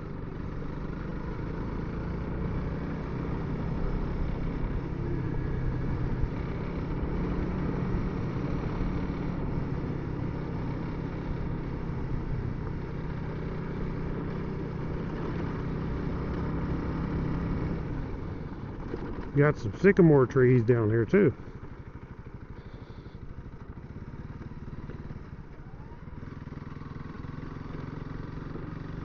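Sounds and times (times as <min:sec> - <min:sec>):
motorcycle engine running: 0:00.0 - 0:29.0
road noise: 0:00.0 - 0:29.0.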